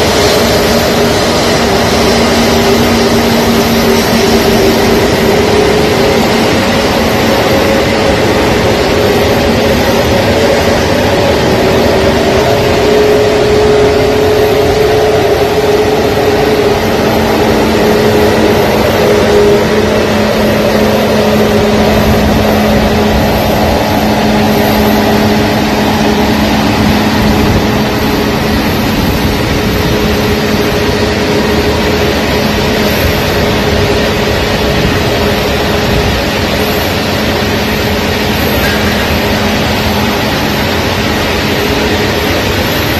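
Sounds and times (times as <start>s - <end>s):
aircraft engines running: 0.0s - 42.9s.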